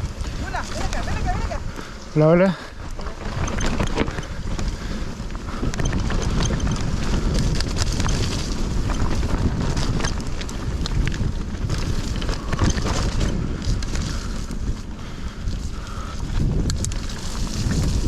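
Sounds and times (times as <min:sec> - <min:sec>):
bike rattling over rough ground: 0:00.0 - 0:18.0
wind buffeting microphone: 0:00.0 - 0:18.0.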